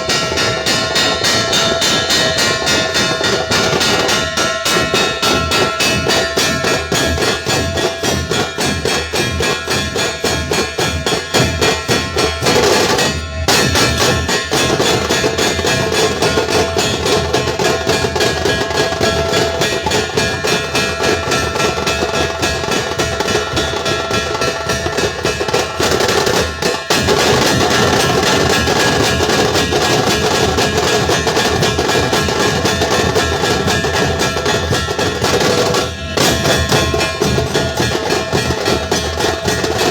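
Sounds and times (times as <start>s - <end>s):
dhol drums beating: 0.0s - 39.9s
high sharp tasha drums: 0.0s - 39.9s.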